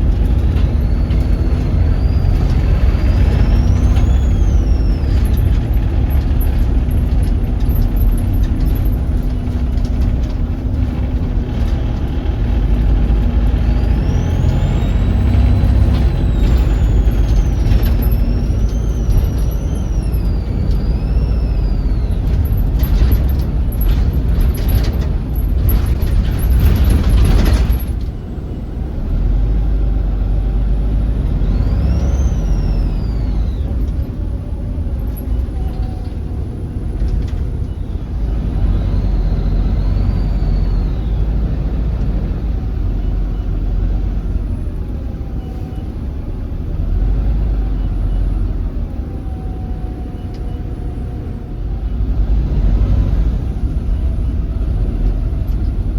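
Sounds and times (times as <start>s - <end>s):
bus diesel engine with turbo whistle: 0.0s - 55.9s.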